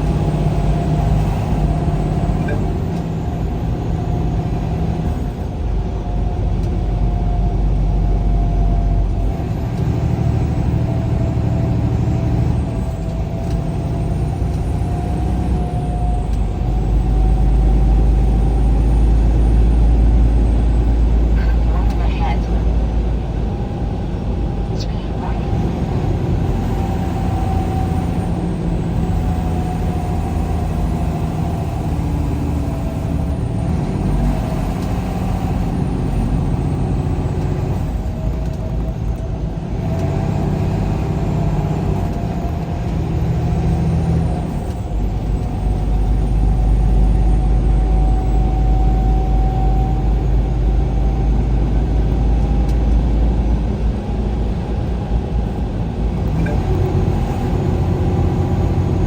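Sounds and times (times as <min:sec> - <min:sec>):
deeper rumble: 0:00.0 - 0:59.0
vehicle engine and road noise: 0:00.0 - 0:59.0.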